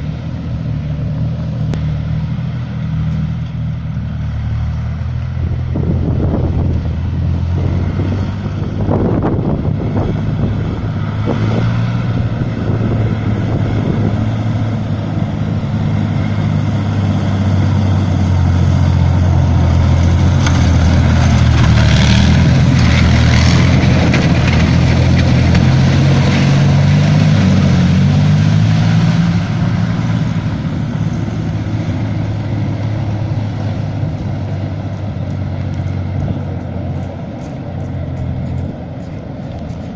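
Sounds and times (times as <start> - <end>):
diesel engine under load: 0.0 - 39.9
rumble of vehicle tracks: 0.0 - 39.9.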